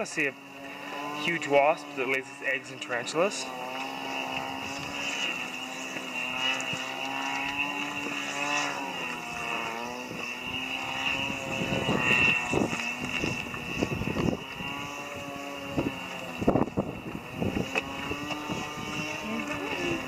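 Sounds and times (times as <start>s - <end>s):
steady engine drone: 0.0s - 20.0s.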